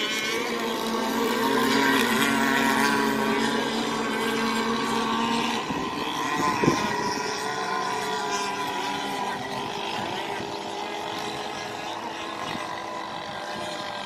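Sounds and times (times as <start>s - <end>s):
racing boat engines: 0.0s - 14.0s.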